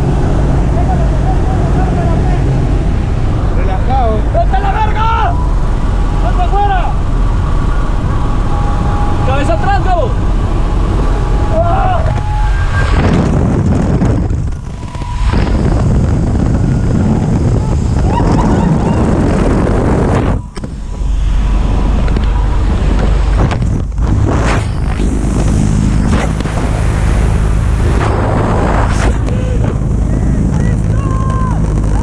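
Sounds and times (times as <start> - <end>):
propeller engine drone: 0.0 - 32.0
wind rushing through open door: 0.0 - 32.0.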